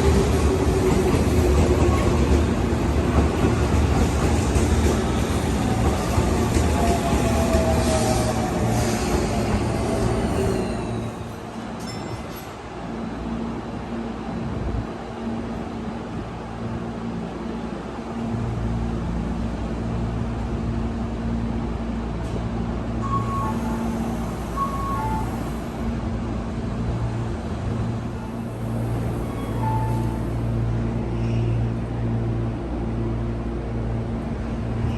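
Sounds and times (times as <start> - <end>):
train low hum: 0.0 - 34.9.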